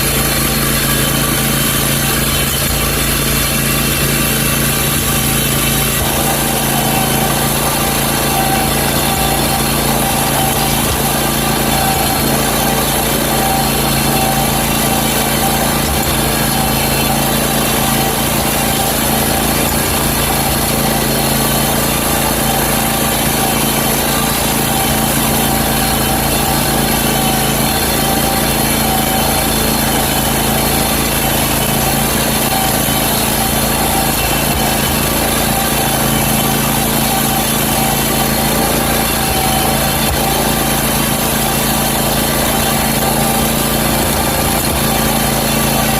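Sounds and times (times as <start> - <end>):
mower engine running: 0.0 - 45.9.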